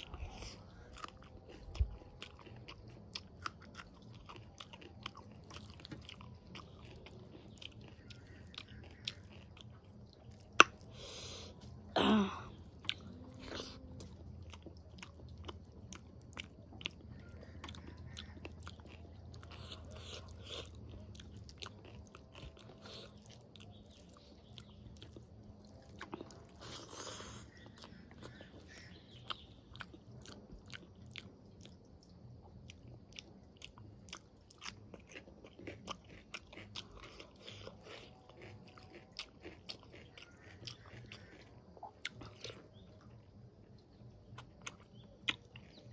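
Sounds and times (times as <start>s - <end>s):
chewing and mouth noises: 0.0s - 45.9s.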